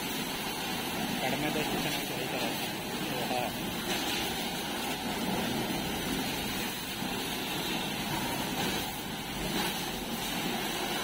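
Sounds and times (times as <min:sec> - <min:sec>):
pressure washer jets spraying: 0:00.0 - 0:11.0.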